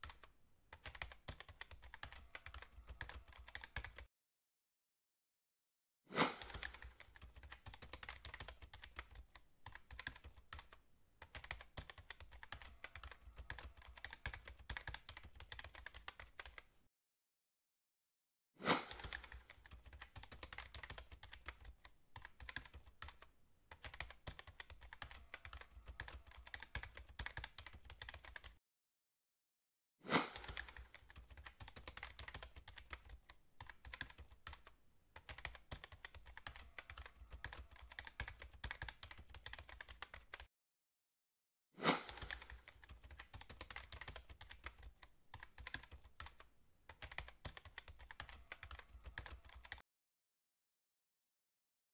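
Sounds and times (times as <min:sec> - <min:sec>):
keyboard typing clatter: 0:00.0 - 0:04.1, 0:06.2 - 0:16.6, 0:18.8 - 0:28.6, 0:30.2 - 0:40.5, 0:41.9 - 0:49.8.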